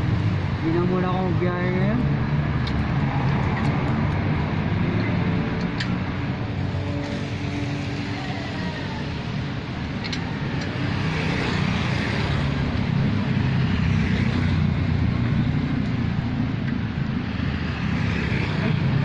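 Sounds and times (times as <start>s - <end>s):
motor vehicle rumbling: 0.0s - 19.0s.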